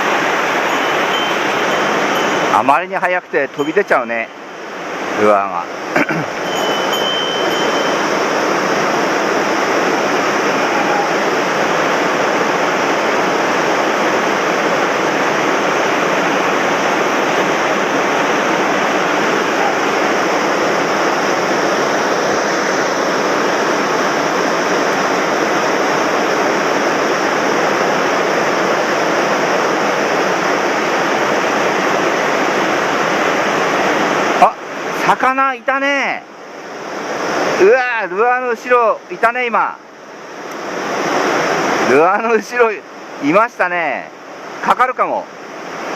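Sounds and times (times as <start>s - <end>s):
stream rushing loudly: 0.0s - 45.9s.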